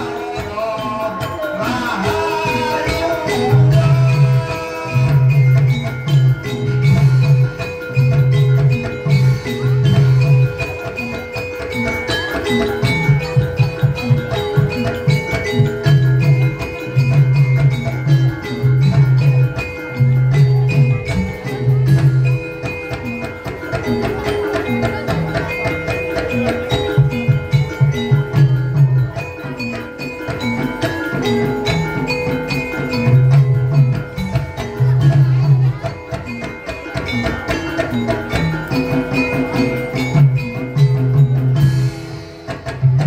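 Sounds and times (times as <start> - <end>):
drum strokes: 0.0 - 43.0
metallophone melody: 0.0 - 43.0.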